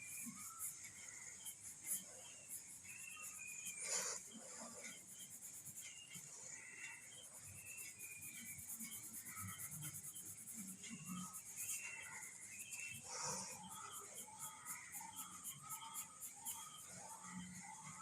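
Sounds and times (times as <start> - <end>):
faint chirping calls: 0.0 - 18.0
pencil shading on paper: 0.0 - 18.0.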